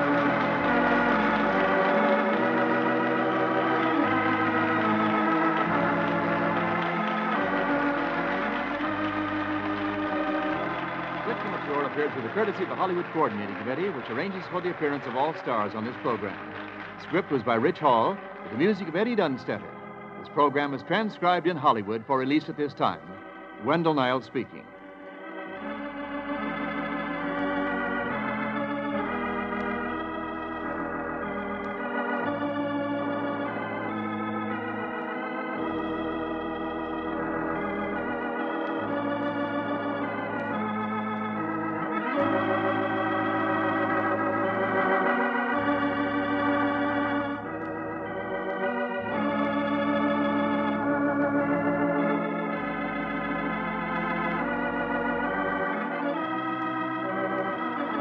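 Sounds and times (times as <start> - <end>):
organ playing chords: 0.0 - 58.0.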